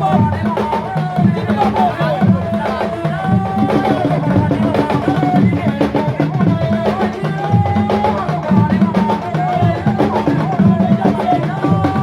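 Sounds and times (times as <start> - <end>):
drums playing fast rhythm: 0.0 - 12.0.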